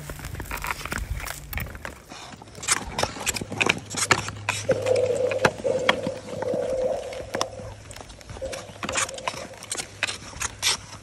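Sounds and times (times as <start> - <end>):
skate blades gliding on ice: 0.0 - 11.0.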